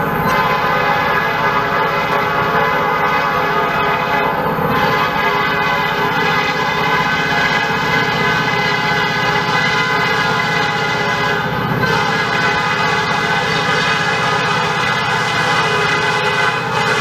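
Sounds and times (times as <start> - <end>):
locomotive air horn blast: 0.0 - 17.0
passing train rumble: 0.0 - 17.0.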